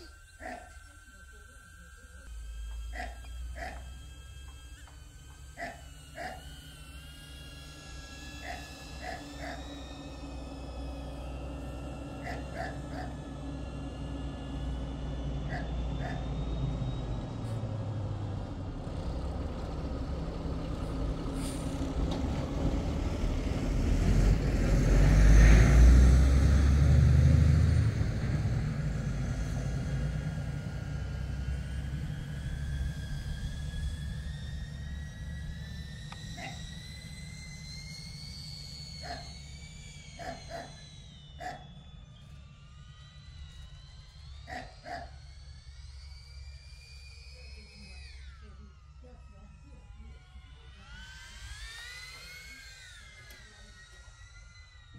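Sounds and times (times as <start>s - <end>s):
drone propellers whining: 0.0s - 54.9s.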